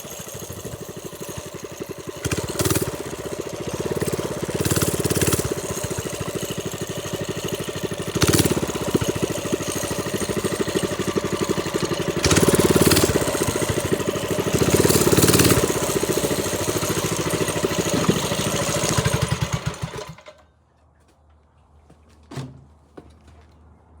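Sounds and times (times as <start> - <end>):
minibike engine revving: 0.0 - 20.4.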